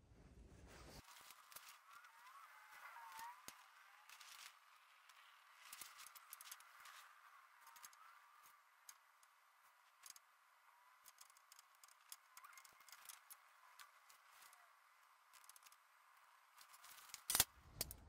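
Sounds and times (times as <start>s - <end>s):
small clicks and crackles: 0.7s - 18.0s.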